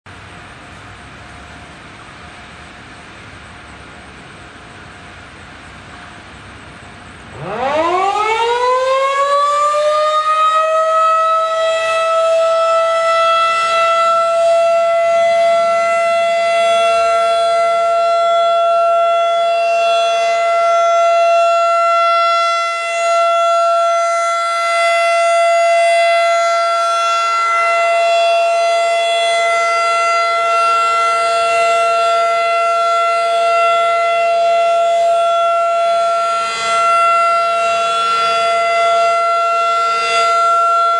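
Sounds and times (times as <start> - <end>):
rotating warning siren wailing: 6.9 - 40.9.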